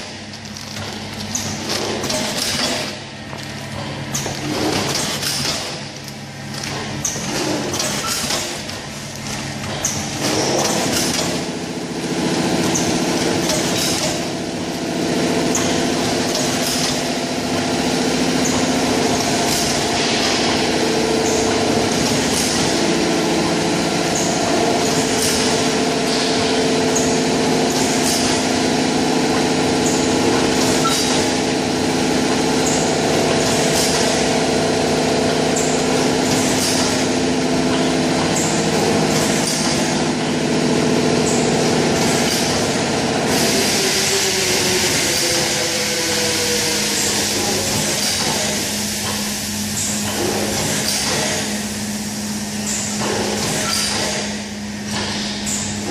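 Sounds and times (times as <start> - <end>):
machine motor hum: 0.0 - 55.9.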